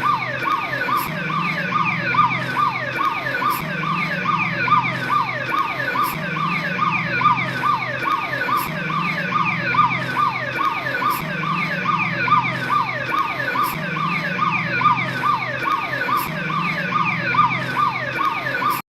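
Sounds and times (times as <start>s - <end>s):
police car siren: 0.0s - 18.8s.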